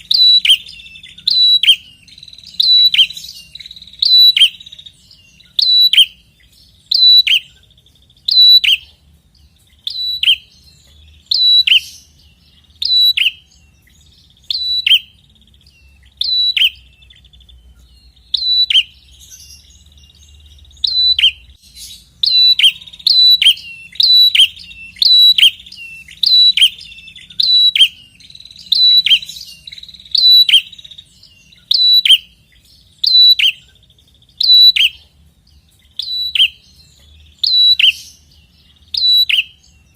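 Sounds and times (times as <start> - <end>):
bird calling: 0.0 - 39.9.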